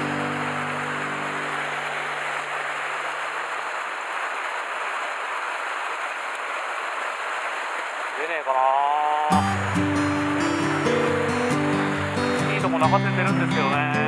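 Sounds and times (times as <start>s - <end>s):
stream rushing over cascades: 0.0s - 14.0s.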